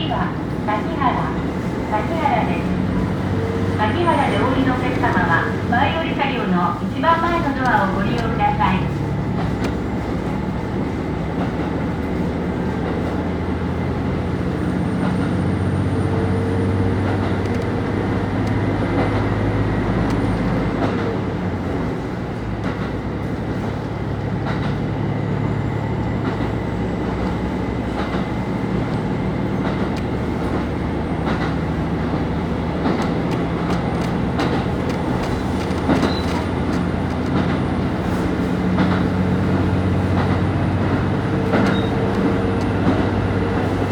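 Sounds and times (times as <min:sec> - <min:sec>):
train wheels clicking over rail joints: 0:07.3 - 0:25.0, 0:26.2 - 0:43.9.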